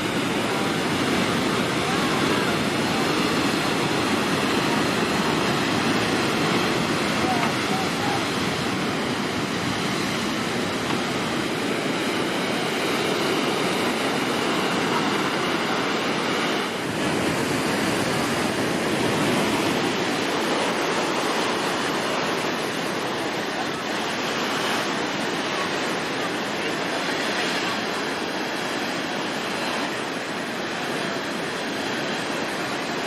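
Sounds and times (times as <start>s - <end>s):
heavy surf breaking: 0.0s - 33.0s.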